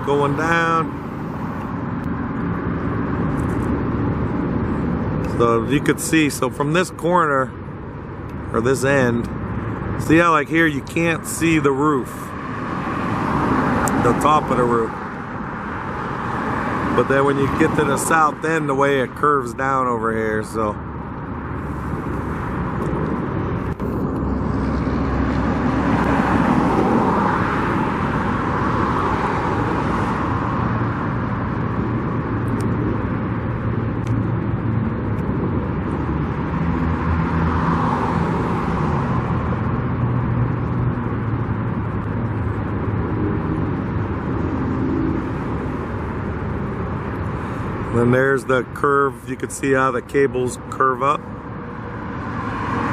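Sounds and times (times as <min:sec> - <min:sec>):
vehicles passing: 0:00.0 - 0:52.9.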